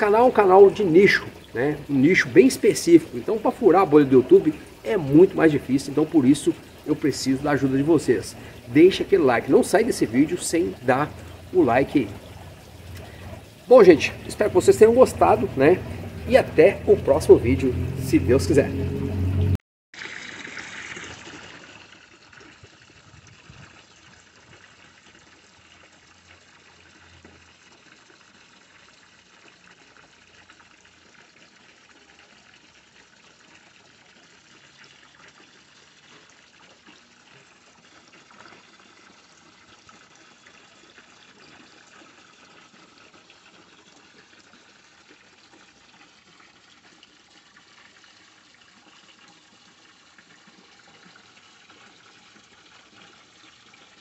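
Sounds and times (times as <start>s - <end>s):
water splashing into a tank: 0.0s - 18.7s, 20.0s - 54.0s.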